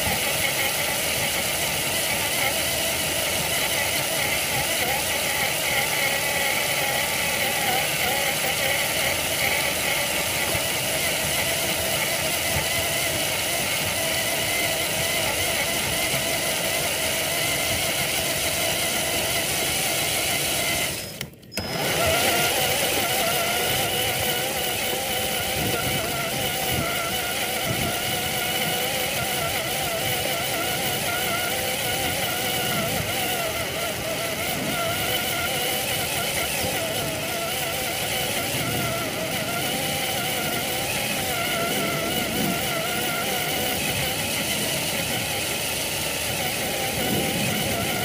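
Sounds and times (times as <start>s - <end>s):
electric motor and gears whining: 0.0s - 48.0s.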